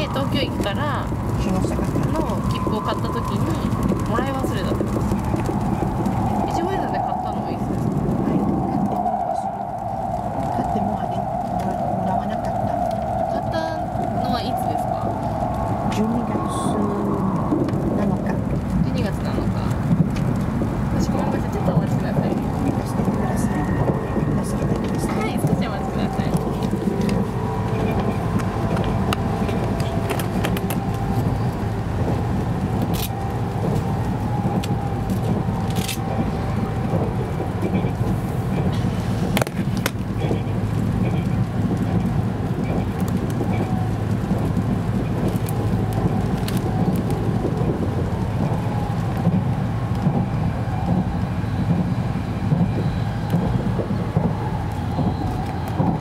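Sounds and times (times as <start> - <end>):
faint steady whine: 0.0 - 56.0
train wheels rumbling on rails: 0.0 - 56.0.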